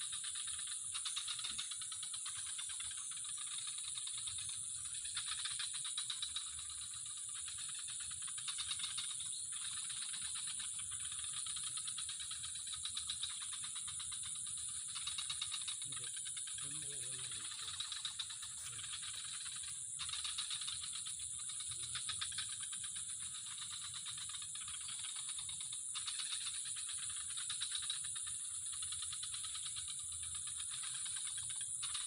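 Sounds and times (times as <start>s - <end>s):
animals trilling in chorus: 6.0s - 32.0s.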